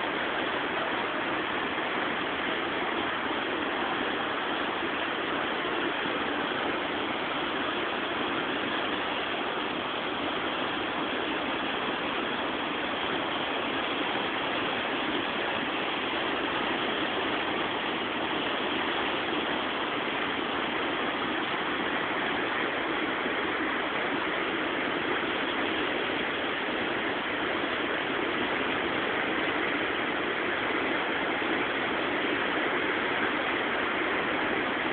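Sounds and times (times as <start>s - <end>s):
turbulent river water rushing: 0.0s - 34.9s.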